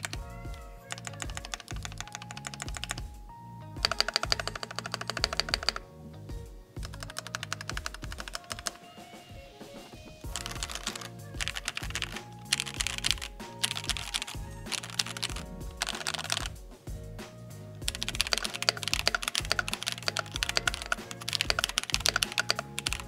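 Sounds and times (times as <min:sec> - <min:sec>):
mechanical keyboard typing: 0:00.0 - 0:03.1, 0:03.8 - 0:05.8, 0:06.8 - 0:08.8, 0:10.3 - 0:16.6, 0:17.8 - 0:23.0.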